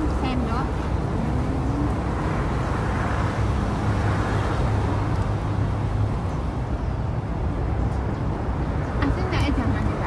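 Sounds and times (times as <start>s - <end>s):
urban background rumble: 0.0s - 10.0s.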